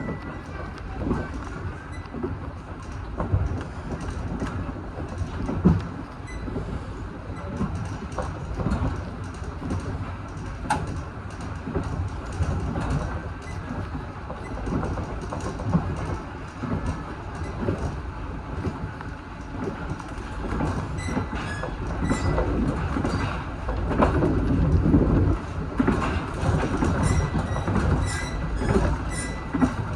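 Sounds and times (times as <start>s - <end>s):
train knocks and rattles: 0.0s - 29.9s
train rumbling on rails: 0.0s - 29.9s.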